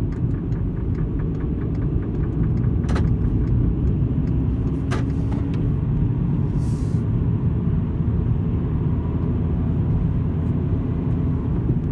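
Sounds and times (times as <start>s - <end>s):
car road and engine rumble: 0.0s - 11.9s.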